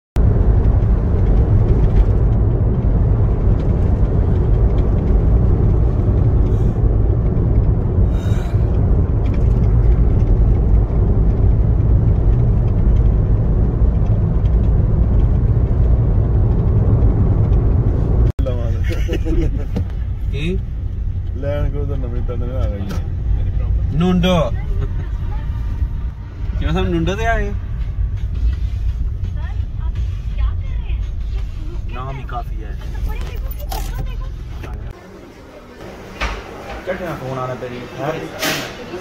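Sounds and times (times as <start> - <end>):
car rumble on road: 0.2 - 39.0.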